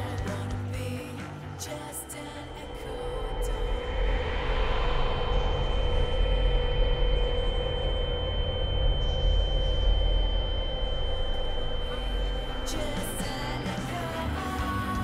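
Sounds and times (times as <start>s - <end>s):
deep low rumble: 0.0s - 15.0s
high-pitched ringing tone: 0.0s - 15.0s.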